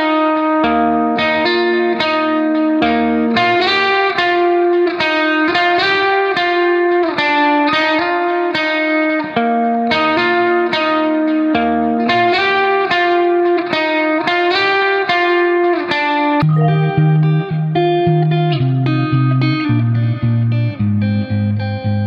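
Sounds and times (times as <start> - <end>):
guitar melody: 0.0 - 22.0.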